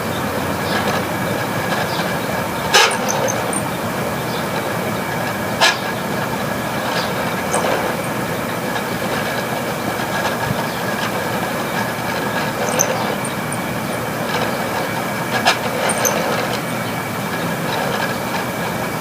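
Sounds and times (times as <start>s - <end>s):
air conditioner droning: 0.0s - 19.0s
fan blades sloshing: 0.0s - 19.0s
steady whines: 0.0s - 19.0s
clicks and rattles: 0.6s - 19.0s.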